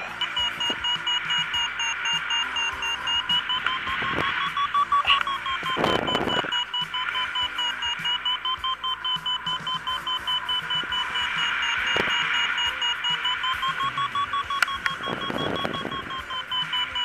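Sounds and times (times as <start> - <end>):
variometer beeping rapidly: 0.0 - 17.0.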